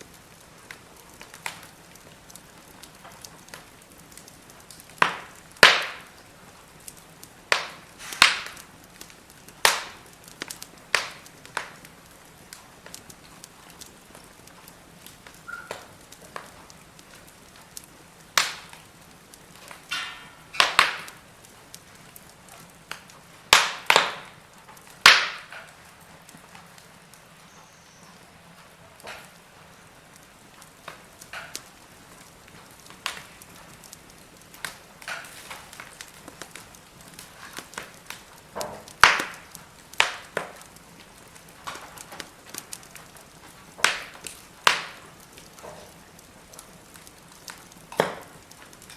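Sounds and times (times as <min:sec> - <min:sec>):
faint steady hiss: 0:00.0 - 0:48.9
firewood crackling and popping: 0:00.0 - 0:48.9.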